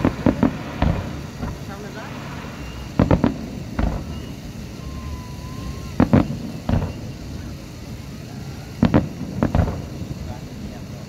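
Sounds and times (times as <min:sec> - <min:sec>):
fireworks bursting in sharp bangs: 0:00.0 - 0:11.0
steady outdoor background: 0:00.0 - 0:11.0.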